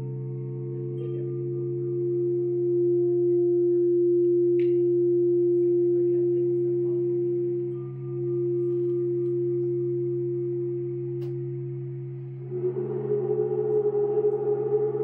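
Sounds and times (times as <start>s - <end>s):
crystal singing bowls ringing: 0.0s - 15.0s.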